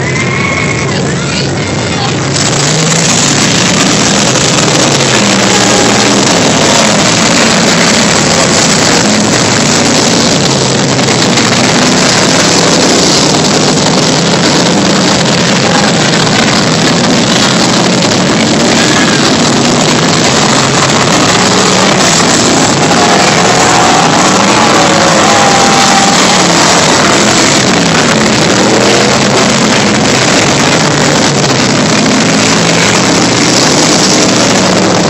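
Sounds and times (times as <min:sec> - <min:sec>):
race car engines: 0:00.0 - 0:35.0.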